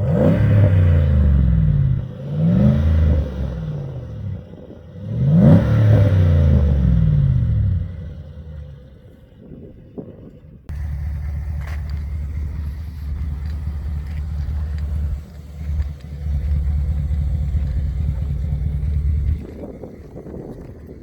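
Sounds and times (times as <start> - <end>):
deep exhaust rumble: 0.0 - 21.0.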